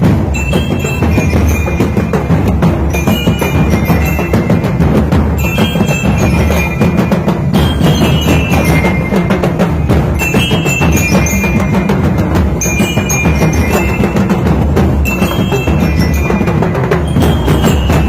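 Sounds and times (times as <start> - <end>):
drum band playing: 0.0 - 18.0
high ringing metallic notes: 0.0 - 18.0.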